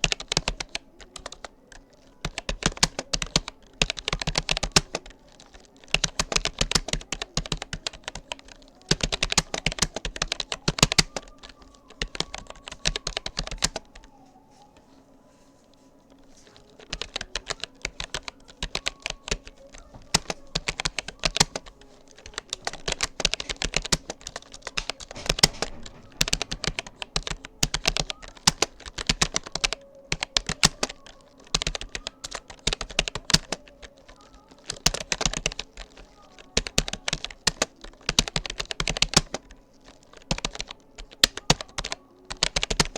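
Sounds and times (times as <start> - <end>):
typing on computer keyboard: 0.0 - 14.2, 16.2 - 42.9.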